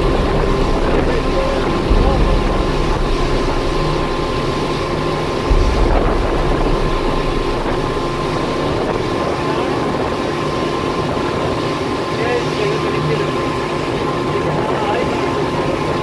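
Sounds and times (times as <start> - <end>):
boat engine hum: 0.0 - 16.0
water rushing: 0.0 - 16.0
wind buffeting microphone: 0.0 - 16.0.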